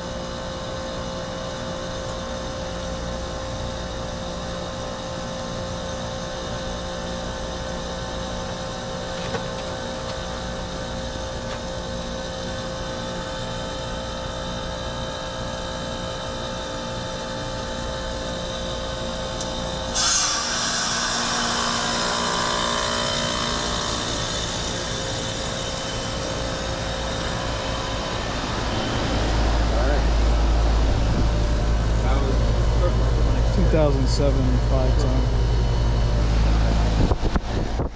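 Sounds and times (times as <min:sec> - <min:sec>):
heat pump compressor humming: 0:00.0 - 0:37.9.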